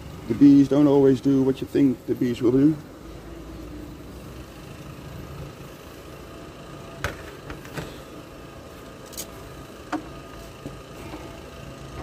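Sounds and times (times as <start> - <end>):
machinery engine rumble: 0.0 - 12.0.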